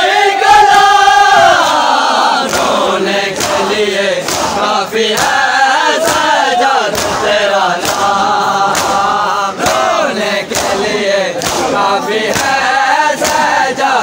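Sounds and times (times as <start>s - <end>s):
men chanting in unison: 0.0s - 14.0s
hands slapping on chests: 1.6s - 13.8s.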